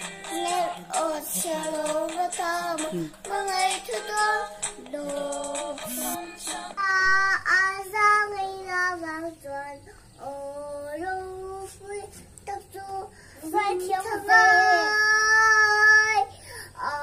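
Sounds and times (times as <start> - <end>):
little girl singing: 0.3 - 17.0.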